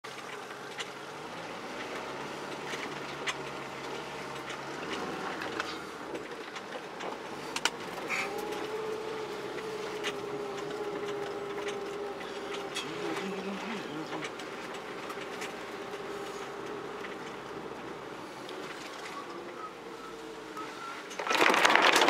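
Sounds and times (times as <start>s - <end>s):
vehicle engine running low: 0.0s - 21.9s.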